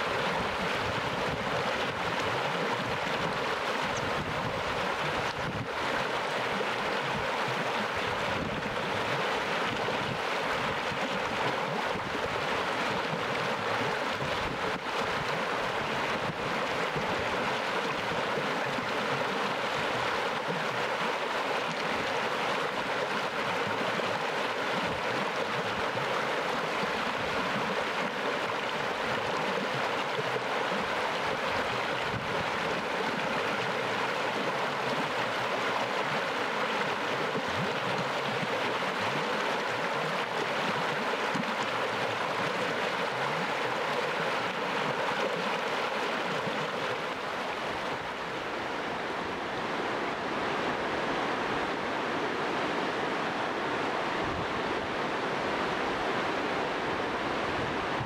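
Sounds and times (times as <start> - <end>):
water rushing over stones: 0.0 - 58.0.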